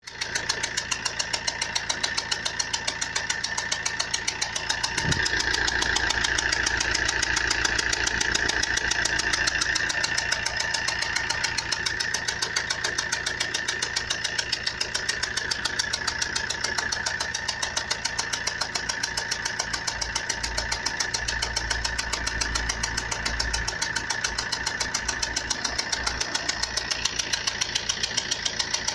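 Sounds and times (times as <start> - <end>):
diesel engine knocking: 0.0 - 28.9.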